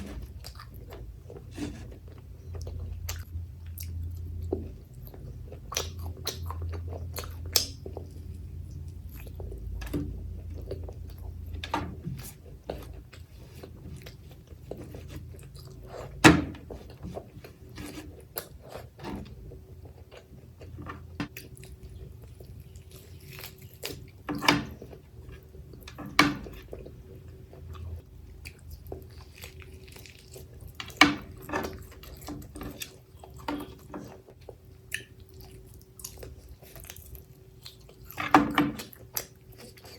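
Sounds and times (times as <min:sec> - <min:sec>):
chewing and eating sounds: 0:00.0 - 0:39.9
low steady hum: 0:00.0 - 0:39.9.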